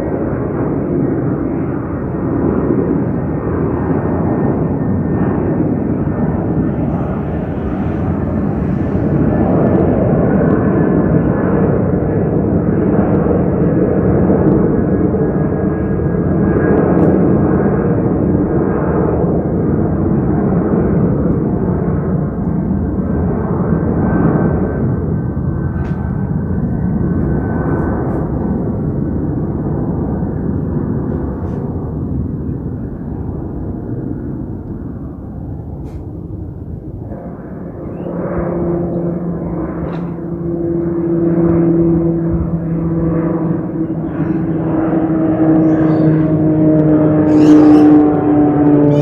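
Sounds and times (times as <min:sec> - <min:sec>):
airliner engines rumbling overhead: 0:00.0 - 0:49.0.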